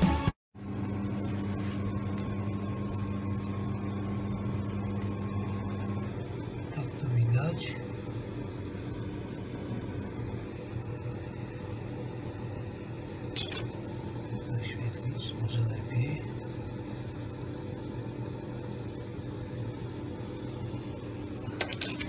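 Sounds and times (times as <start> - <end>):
boiler mechanical hum: 0.0 - 22.0.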